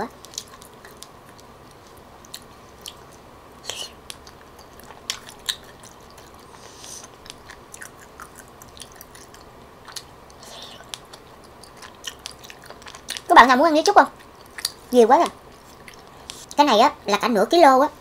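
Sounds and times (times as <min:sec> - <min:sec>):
wet chewing sounds: 0:00.1 - 0:16.6.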